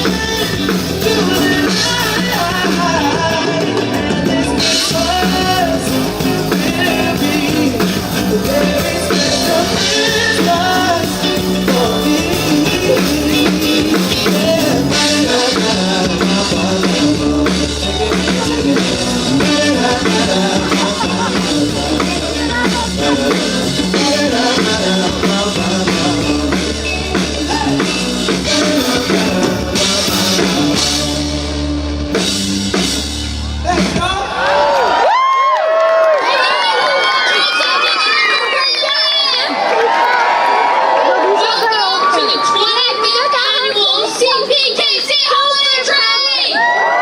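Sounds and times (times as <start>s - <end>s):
upbeat rock song with singer: 0.0s - 35.4s, 40.2s - 47.0s.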